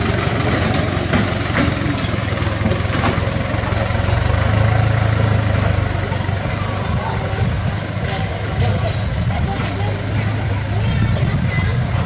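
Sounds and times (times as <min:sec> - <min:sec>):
engine running with low hum: 0:00.0 - 0:11.2.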